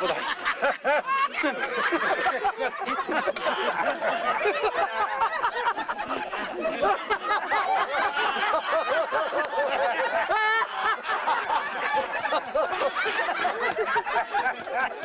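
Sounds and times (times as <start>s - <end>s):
crowd laughing: 0.0s - 15.0s.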